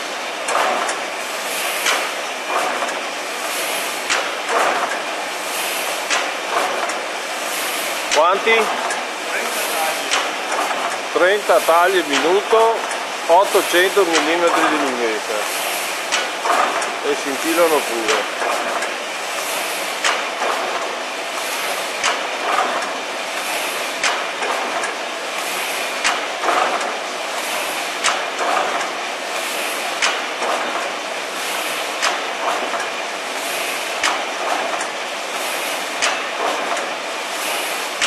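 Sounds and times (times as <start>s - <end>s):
sheet-cutting machine running: 0.0s - 38.0s.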